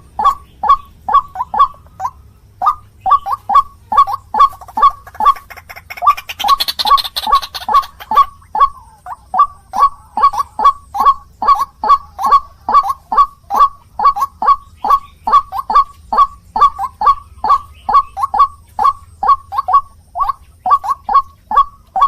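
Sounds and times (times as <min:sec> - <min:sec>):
bird harsh calls: 0:00.0 - 0:22.0.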